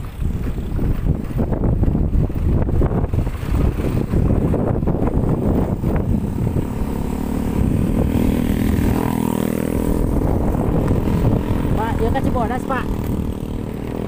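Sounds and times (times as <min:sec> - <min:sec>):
road and wind noise: 0:00.0 - 0:14.0
vehicle engine running: 0:00.0 - 0:14.0.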